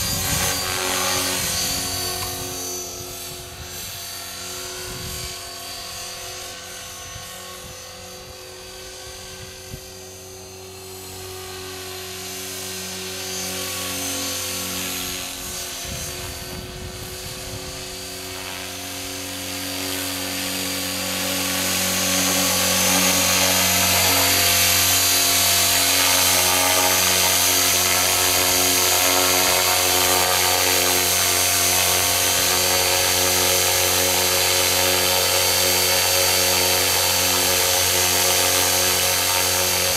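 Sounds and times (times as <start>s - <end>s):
rc helicopter motor whine: 0.0s - 39.9s
rotor blades rushing: 0.0s - 39.9s.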